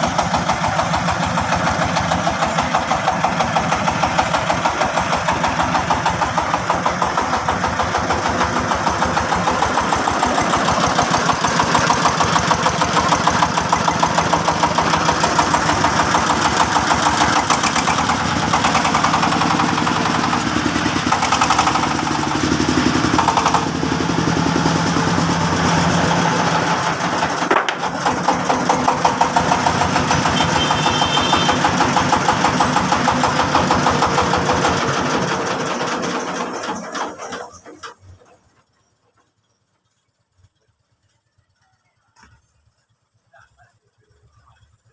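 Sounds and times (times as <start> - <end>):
engine running with rapid pulse: 0.0 - 44.9.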